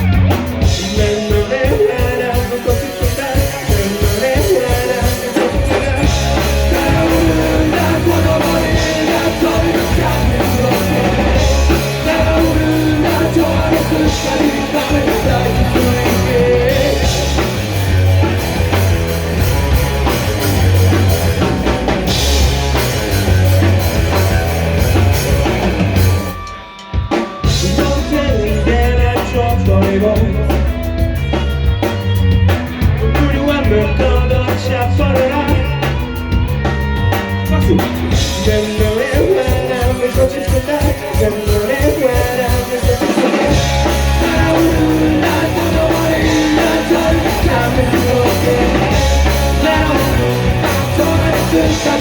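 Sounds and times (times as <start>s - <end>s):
rock band playing live: 0.0s - 52.0s.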